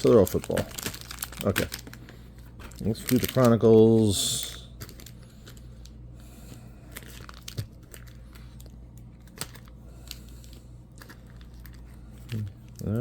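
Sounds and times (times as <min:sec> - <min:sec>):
plastic wrapper crackling: 0:00.0 - 0:06.0, 0:06.8 - 0:13.0.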